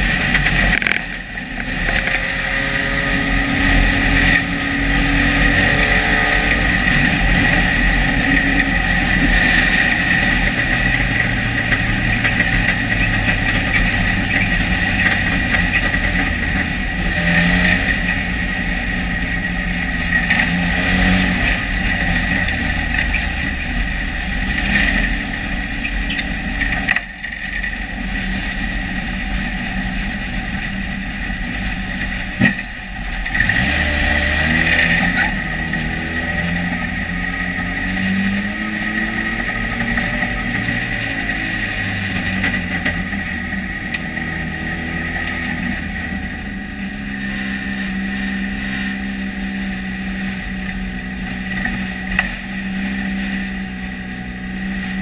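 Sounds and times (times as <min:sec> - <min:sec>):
high whine: 0:00.0 - 0:55.0
race car engine: 0:00.0 - 0:55.0.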